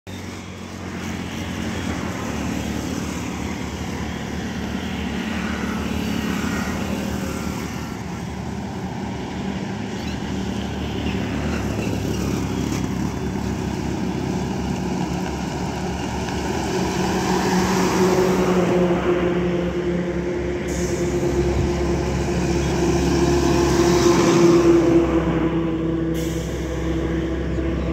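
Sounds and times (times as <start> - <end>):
highway traffic: 0.0 - 27.9
truck engine drone: 0.1 - 27.9.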